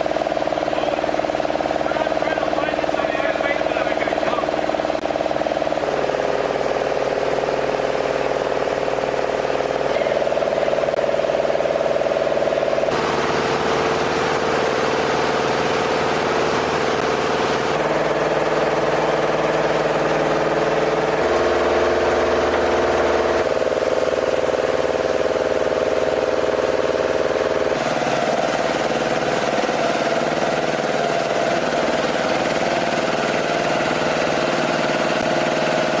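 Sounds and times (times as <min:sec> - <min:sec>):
engine drone with steady tones: 0:00.0 - 0:36.0.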